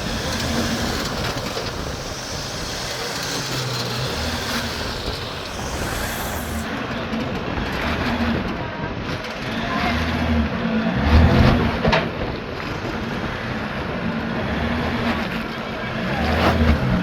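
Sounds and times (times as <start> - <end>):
off-road engine running: 0.0 - 17.0.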